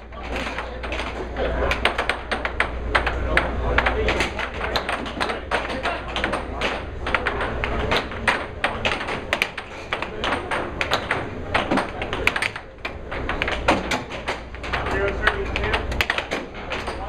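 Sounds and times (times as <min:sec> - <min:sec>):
air hockey puck clacking: 0:00.0 - 0:17.0.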